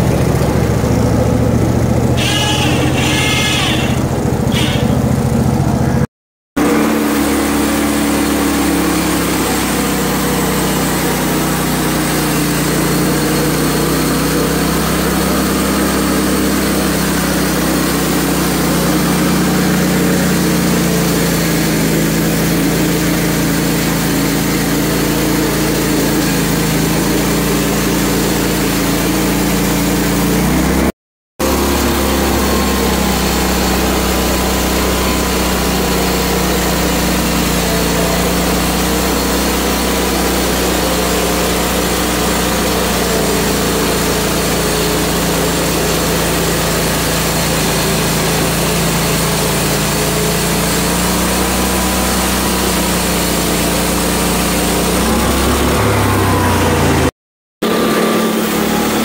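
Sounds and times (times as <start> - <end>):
sawmill engine running: 0.0 - 59.0
band blade sawing log: 2.2 - 5.0, 6.6 - 59.0.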